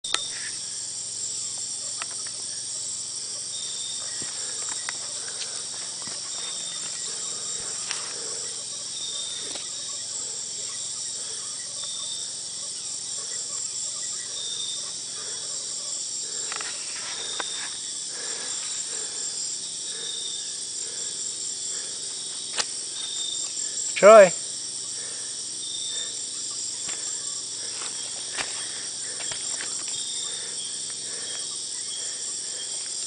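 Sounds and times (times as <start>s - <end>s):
insects chorus: 0.0s - 33.0s.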